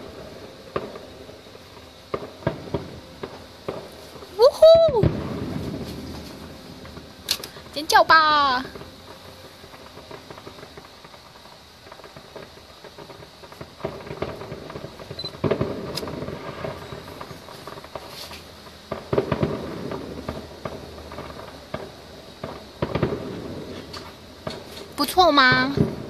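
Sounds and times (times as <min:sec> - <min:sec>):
distant fireworks bangs and crackles: 0:00.0 - 0:26.0.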